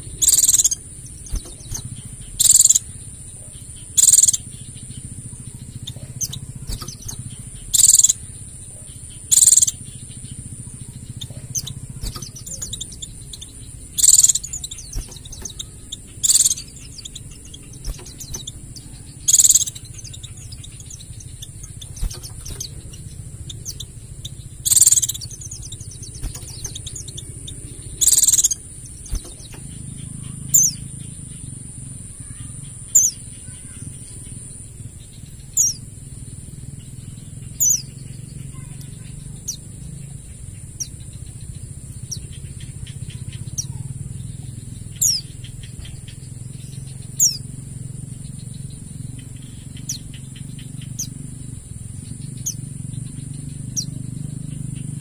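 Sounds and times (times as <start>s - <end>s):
bird chattering trills: 0.0s - 55.0s.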